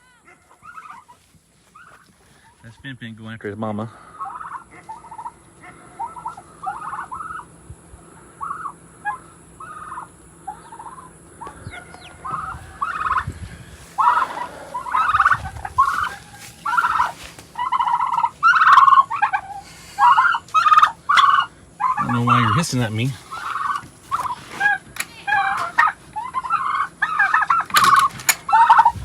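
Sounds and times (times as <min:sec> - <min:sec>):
turkeys gobbling: 0:00.0 - 0:02.8, 0:03.9 - 0:29.0.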